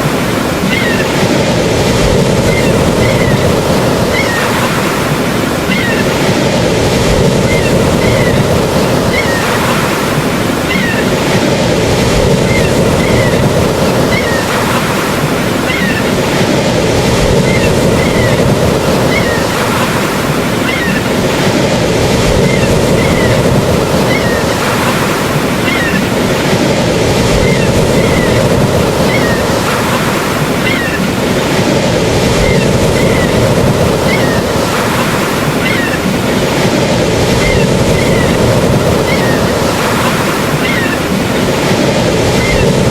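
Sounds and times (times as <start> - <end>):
ocean surf rushing: 0.0 - 42.9.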